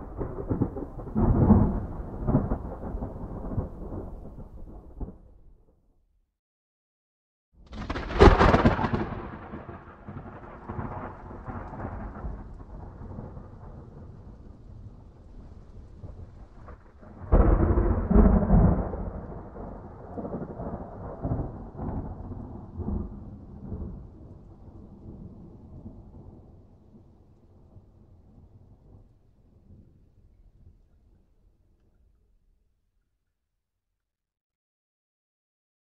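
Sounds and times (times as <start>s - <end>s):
thunder rumbling: 0.0s - 5.7s, 7.7s - 31.4s
thunderclap: 0.0s - 5.7s, 7.6s - 31.2s.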